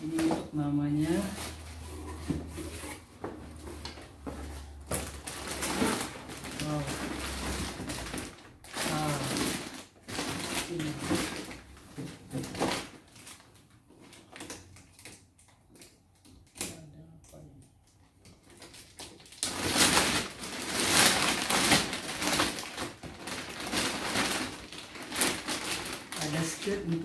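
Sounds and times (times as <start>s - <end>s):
plastic bag crinkling: 0.0s - 2.9s, 3.5s - 16.6s, 18.4s - 27.0s.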